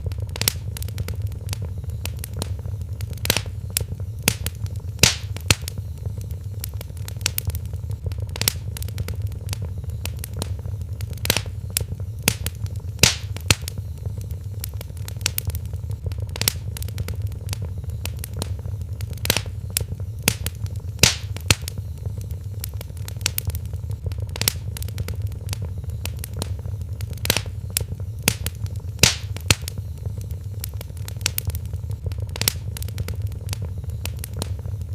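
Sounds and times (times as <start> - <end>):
fire popping and snapping: 0.0 - 34.9
low rumble of burning fire: 0.0 - 34.9
wood fire crackling: 0.0 - 34.9.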